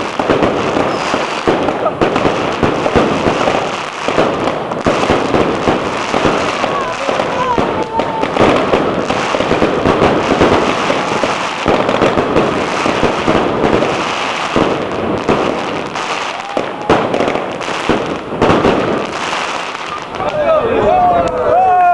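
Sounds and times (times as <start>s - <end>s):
crackling fireworks: 0.0s - 21.9s.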